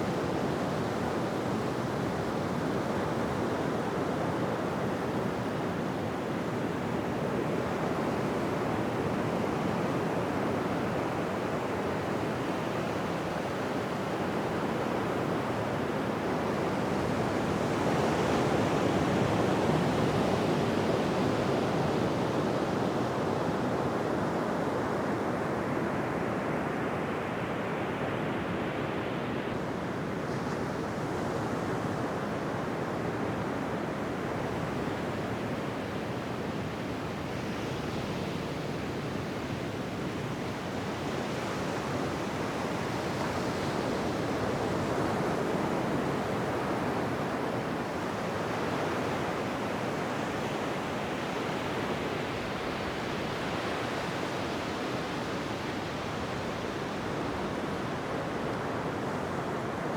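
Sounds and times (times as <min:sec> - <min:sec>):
ocean waves on a beach: 0:00.0 - 0:59.9.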